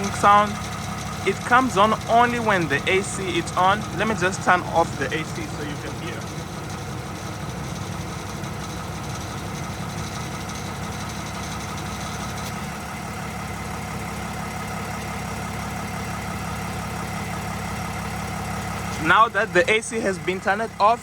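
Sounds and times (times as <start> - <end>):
diesel engine idling: 0.0 - 21.0
engine rattle: 0.0 - 21.0.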